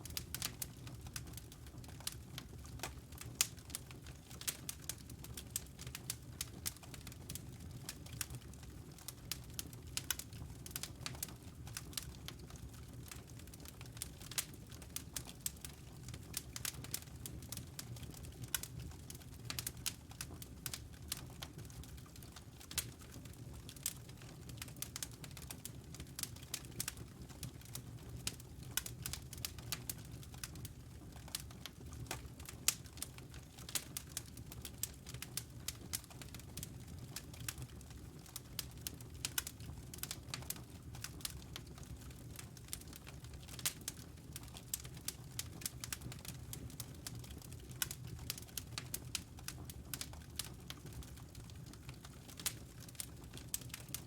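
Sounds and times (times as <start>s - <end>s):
logs crackling in fireplace: 0.0s - 54.0s
low rumble of flames: 0.0s - 54.0s.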